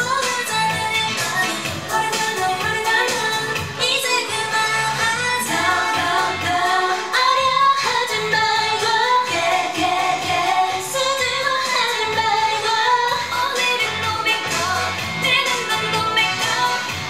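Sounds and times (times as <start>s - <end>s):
pop dance song: 0.0s - 17.0s
woman singing: 0.0s - 17.0s.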